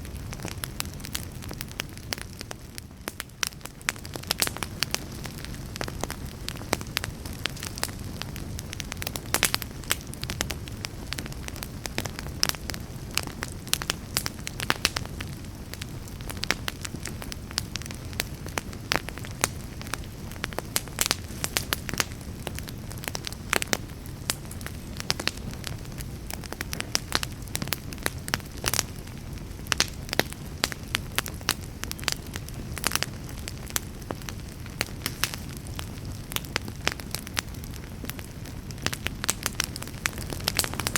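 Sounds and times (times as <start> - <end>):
burning logs crackling and popping: 0.0 - 40.9
fire flames rumbling: 0.0 - 40.9.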